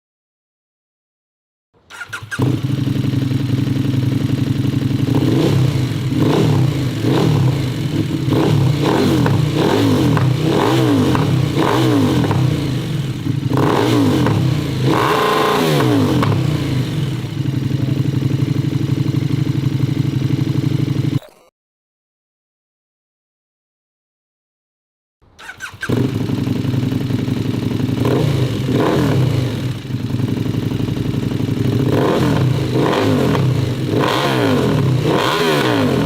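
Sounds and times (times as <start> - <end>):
motorcycle engine revving: 1.9 - 21.2, 25.4 - 36.0.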